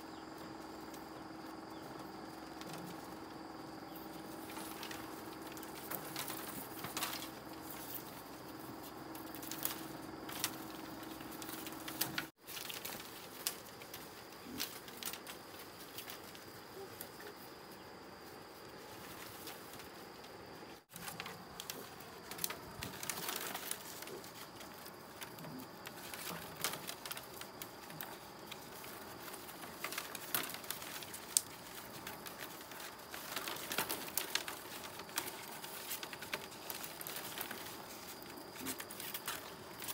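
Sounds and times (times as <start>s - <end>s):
bamboo strips clacking: 0.4s - 17.4s, 19.1s - 39.9s.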